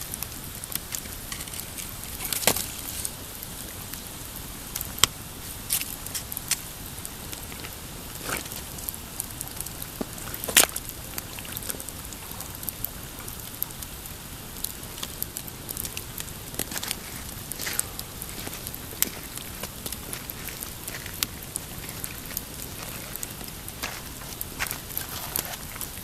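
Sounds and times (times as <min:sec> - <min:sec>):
campfire crackling and popping: 0:00.0 - 0:26.0
waves lapping on rocks: 0:00.0 - 0:26.0.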